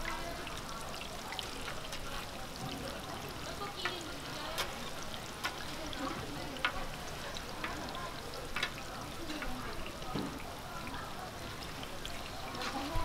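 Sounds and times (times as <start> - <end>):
pancakes sizzling in oil: 0.0 - 13.0.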